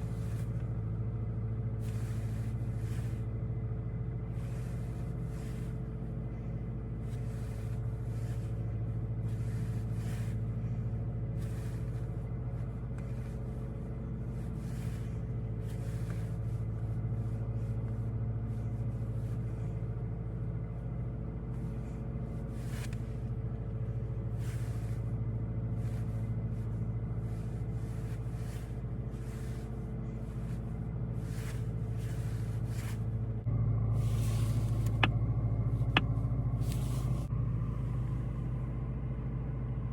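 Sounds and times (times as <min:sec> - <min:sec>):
car engine droning while driving: 0:00.0 - 0:39.9.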